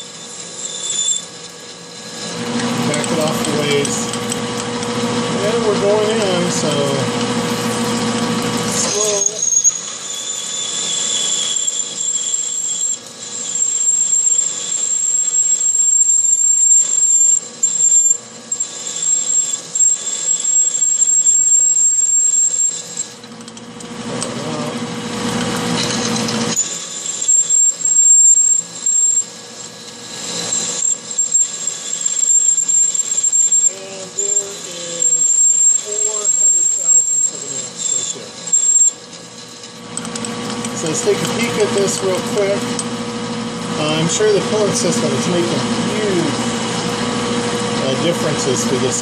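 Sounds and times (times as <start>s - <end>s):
drill bit squealing in steel: 0.0s - 49.0s.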